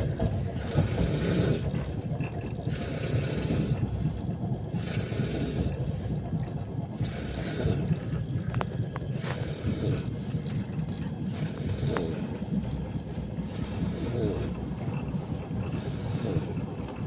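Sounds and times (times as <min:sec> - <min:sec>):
moving train rumble: 0:00.0 - 0:17.0.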